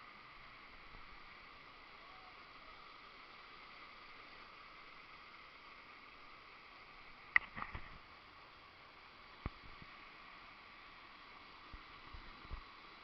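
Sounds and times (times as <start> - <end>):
rushing river and waterfall: 0.0 - 13.0.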